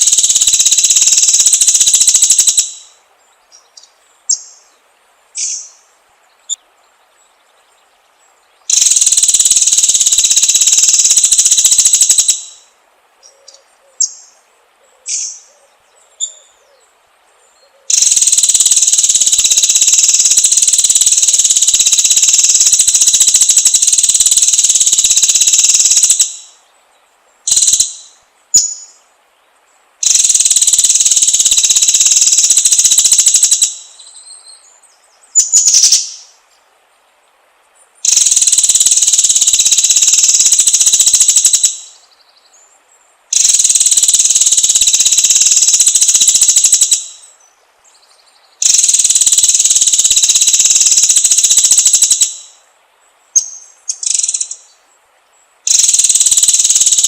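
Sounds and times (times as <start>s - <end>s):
high rapid buzzing bird trills: 0.0s - 14.4s, 17.5s - 36.6s, 37.7s - 57.0s.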